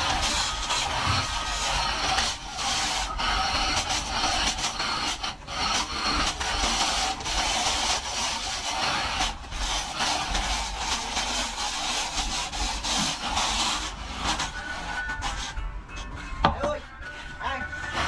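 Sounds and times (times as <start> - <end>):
plastering tool scraping wall: 0.0 - 18.0.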